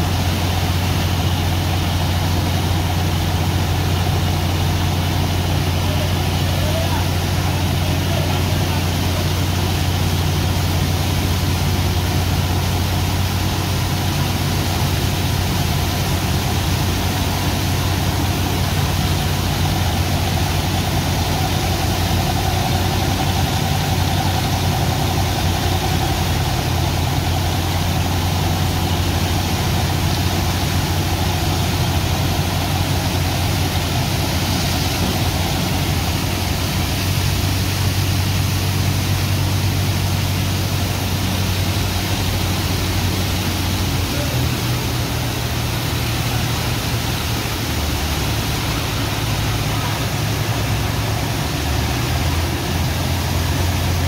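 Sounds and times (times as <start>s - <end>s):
pump engine humming: 0.0s - 54.0s
water jet spraying into sand: 0.0s - 54.0s.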